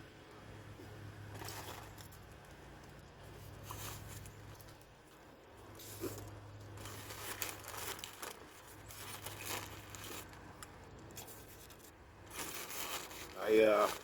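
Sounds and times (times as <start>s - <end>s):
packaging crinkling and rustling: 1.3s - 4.9s, 5.7s - 14.0s.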